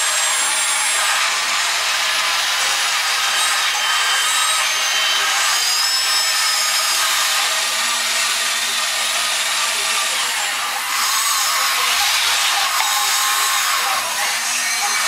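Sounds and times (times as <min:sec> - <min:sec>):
toy electric motors whining: 0:00.0 - 0:15.0.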